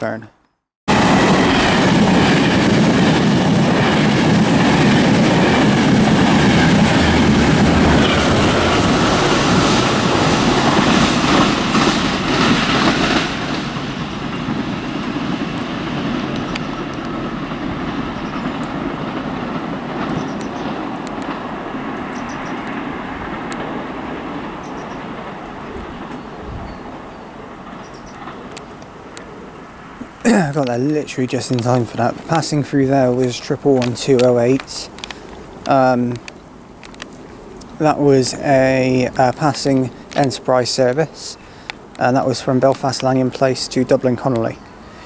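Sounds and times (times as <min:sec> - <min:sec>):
train wheels clattering over rail joints: 0:00.9 - 0:29.2, 0:30.0 - 0:44.6.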